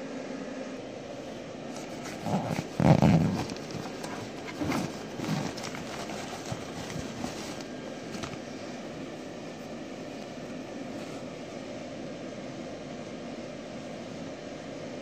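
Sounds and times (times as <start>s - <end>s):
blower fan running: 0.0s - 15.0s.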